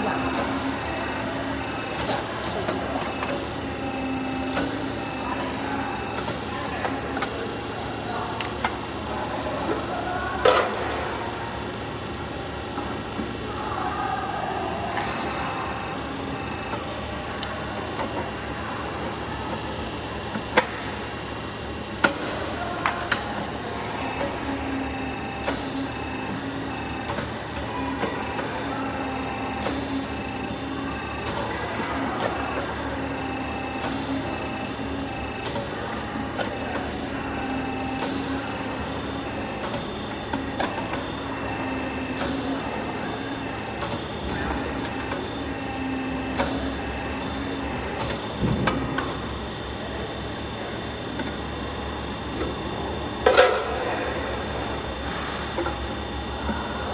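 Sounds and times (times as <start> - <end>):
forming machine running: 0.0 - 56.9.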